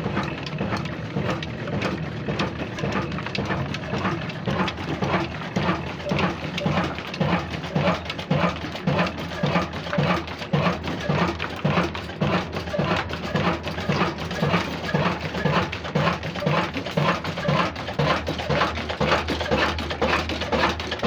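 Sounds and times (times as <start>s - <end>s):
diesel engine knocking: 0.0s - 21.0s.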